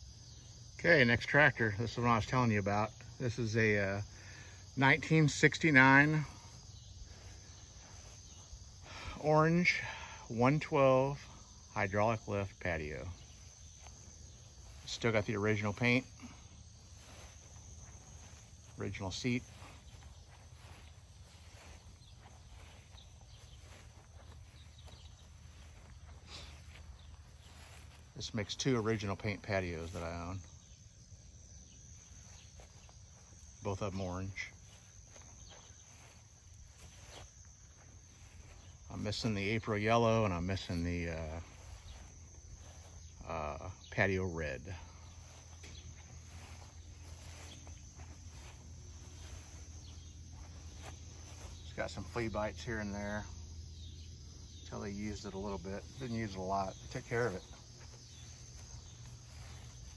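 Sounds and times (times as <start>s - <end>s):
insects chirping: 0.0s - 59.9s
footsteps in grass: 2.6s - 10.0s, 10.6s - 59.9s.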